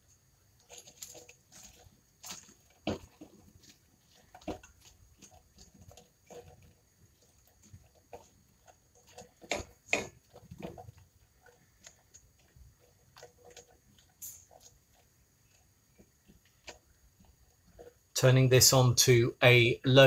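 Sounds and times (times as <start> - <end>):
spatula knocking and scraping pot: 0.6 - 18.2.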